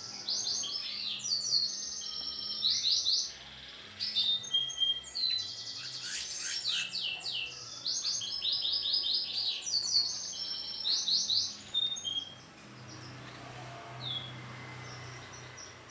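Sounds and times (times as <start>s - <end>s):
canary singing: 0.0s - 15.9s.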